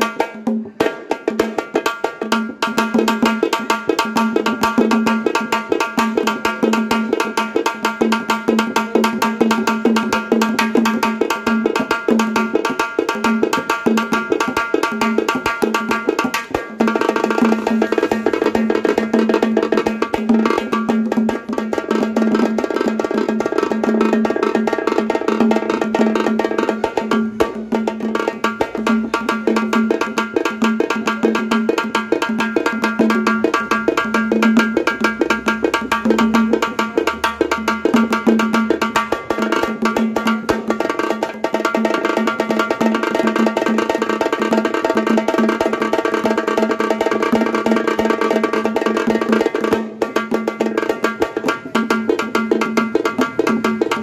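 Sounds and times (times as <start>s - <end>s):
fast drum duet: 0.0s - 54.0s.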